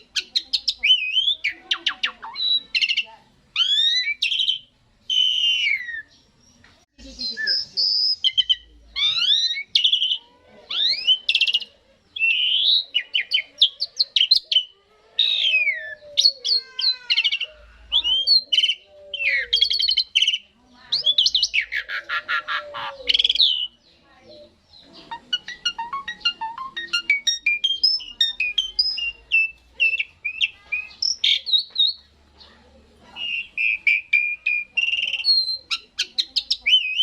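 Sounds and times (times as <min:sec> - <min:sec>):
starling singing: 0:00.0 - 0:37.0.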